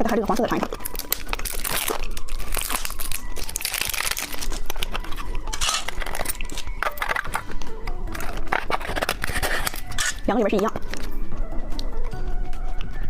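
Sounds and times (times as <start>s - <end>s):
candy wrapper crinkling: 0.0s - 12.0s.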